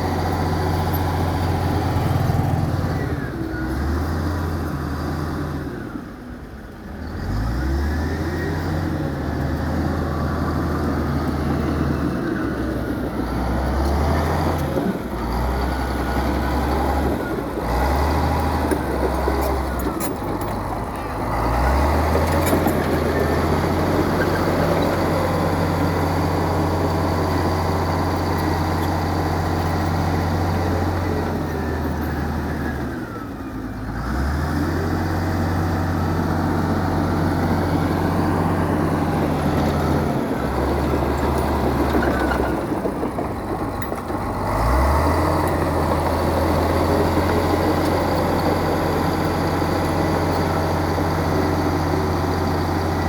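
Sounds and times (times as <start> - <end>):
heavy diesel machine engine: 0.0 - 53.0.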